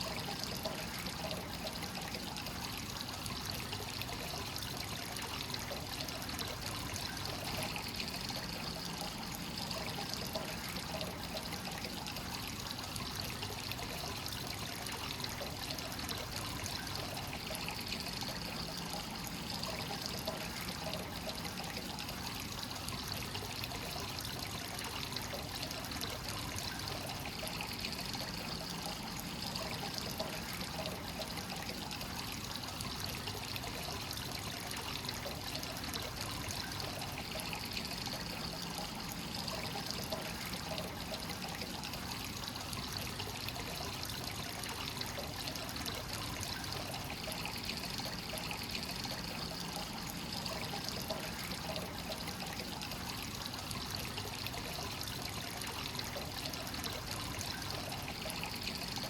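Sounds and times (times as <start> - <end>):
hot spring water pouring into bath: 0.0 - 59.0.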